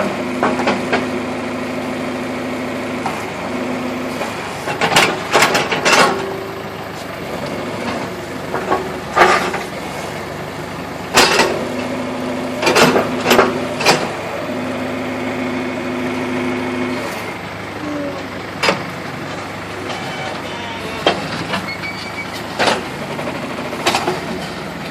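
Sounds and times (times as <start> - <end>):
backhoe engine running: 0.0 - 24.9.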